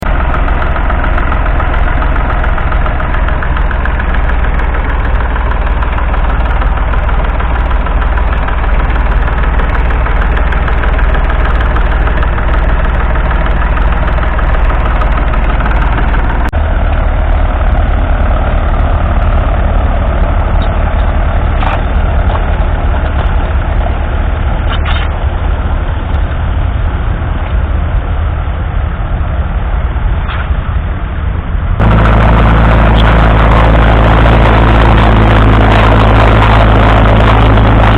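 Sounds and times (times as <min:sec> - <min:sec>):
diesel tractor engine running: 0:00.0 - 0:37.9.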